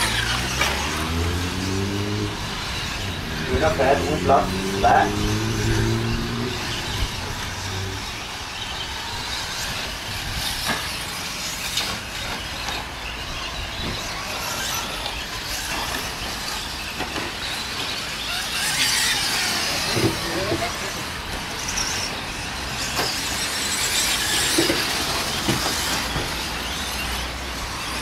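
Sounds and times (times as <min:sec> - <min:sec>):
toy car motors hissing: 0:00.0 - 0:28.0.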